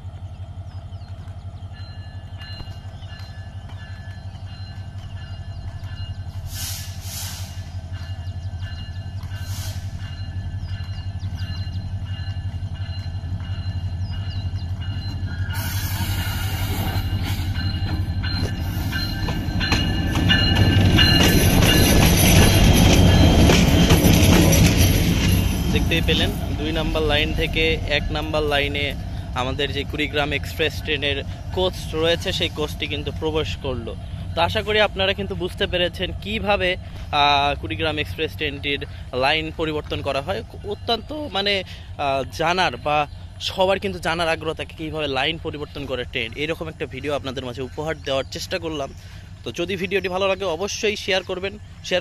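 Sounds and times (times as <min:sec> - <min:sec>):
locomotive engine drone: 0:00.0 - 0:52.0.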